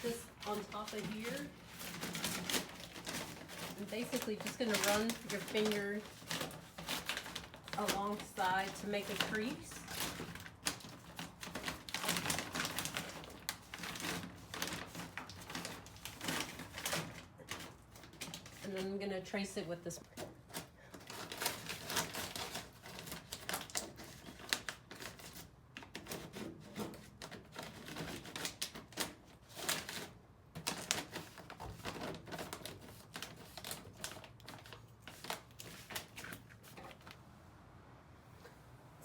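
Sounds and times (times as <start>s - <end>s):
plastic sheet rustling: 0.0s - 19.4s, 20.2s - 37.2s.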